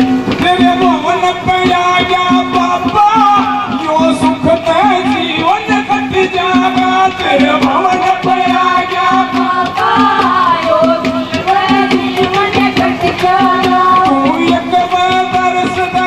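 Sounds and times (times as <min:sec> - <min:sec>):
man singing into microphone: 0:00.0 - 0:09.8, 0:12.4 - 0:16.0
drum strokes: 0:00.0 - 0:16.0
wavering melody line: 0:00.0 - 0:16.0.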